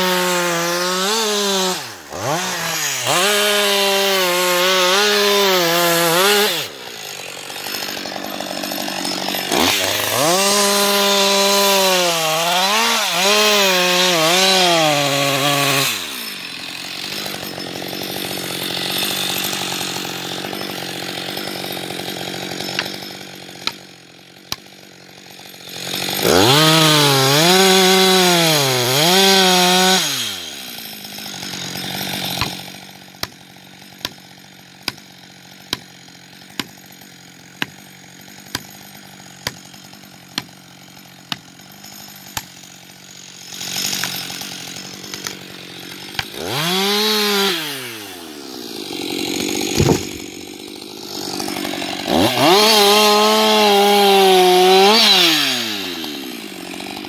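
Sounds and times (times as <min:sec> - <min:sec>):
chainsaw cutting tree trunk: 0:00.0 - 0:57.0.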